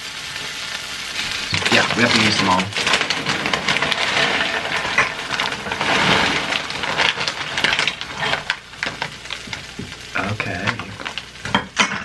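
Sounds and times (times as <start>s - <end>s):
cheese sizzling in oil: 0.0s - 12.0s
small clicks and clatter: 1.5s - 12.0s.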